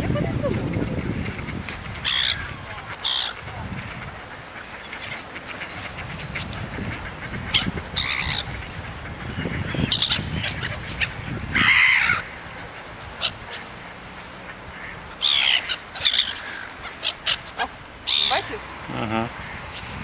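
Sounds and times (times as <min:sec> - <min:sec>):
gulls squawking: 0:00.0 - 0:19.7.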